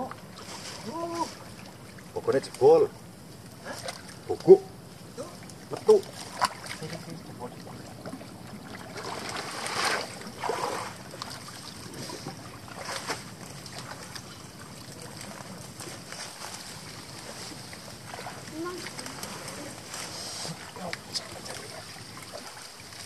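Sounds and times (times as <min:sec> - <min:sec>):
pond water sloshing and splashing: 0:00.0 - 0:23.0.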